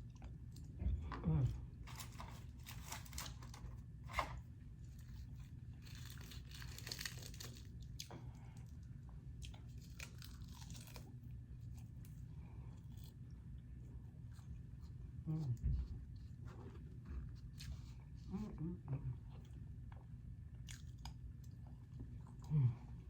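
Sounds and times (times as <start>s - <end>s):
crunching and chewing food: 0.0s - 23.0s
low room hum: 0.0s - 23.0s.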